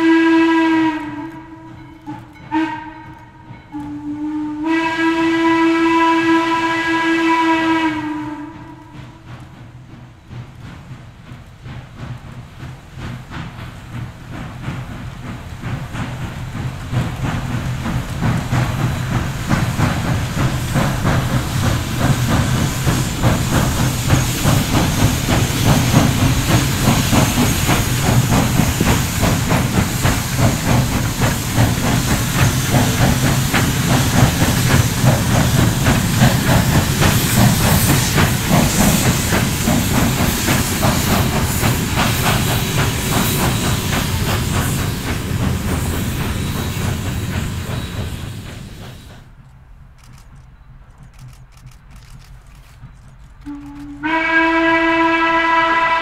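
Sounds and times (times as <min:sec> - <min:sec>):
low train rumble: 0:00.0 - 0:56.0
steam locomotive exhaust chuffs: 0:00.0 - 0:56.0
steam hiss: 0:04.3 - 0:49.4.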